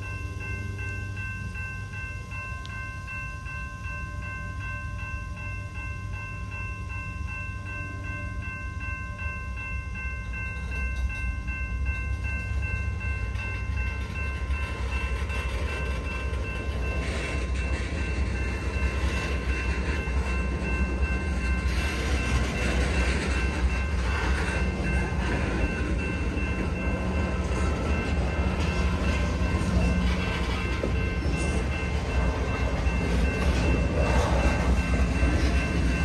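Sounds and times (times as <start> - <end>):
crossing signal bell ringing: 0.0 - 36.0
freight cars rumbling: 6.6 - 36.0.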